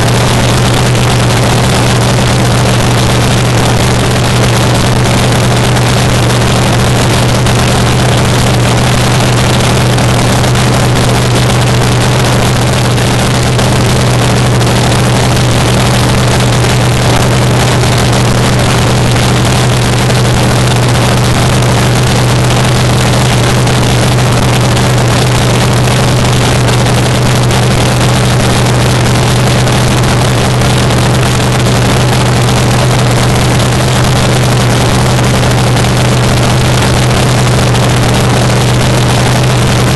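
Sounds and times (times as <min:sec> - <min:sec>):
drag car engine idling: 0:00.0 - 0:39.9.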